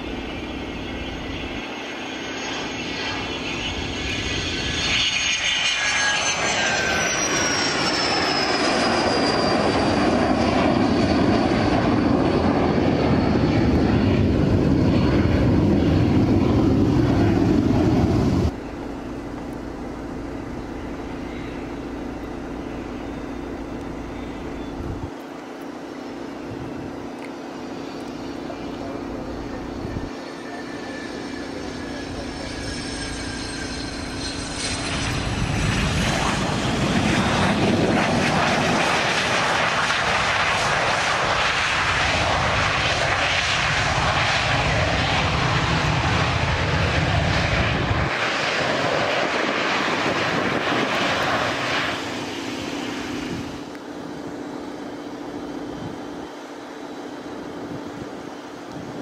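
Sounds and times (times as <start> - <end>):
jet engine whine: 0.0 - 59.0
jet roar: 0.0 - 59.0.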